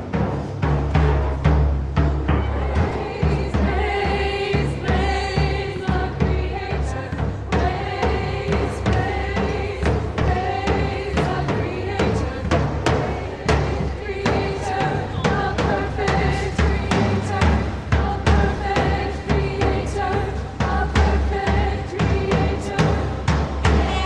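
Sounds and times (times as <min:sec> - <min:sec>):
drum strikes: 0:00.0 - 0:24.0
choir singing held notes: 0:02.3 - 0:24.0.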